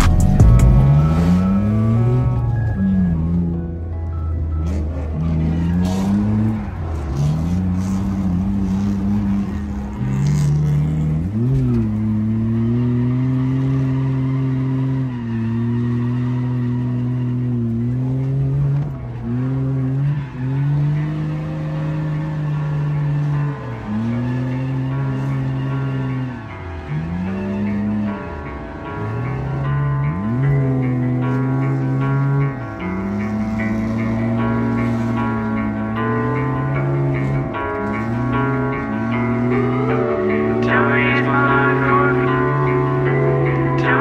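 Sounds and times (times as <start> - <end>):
car engine revving high: 0.0 - 3.8, 4.4 - 44.0
tyres squealing: 4.6 - 44.0.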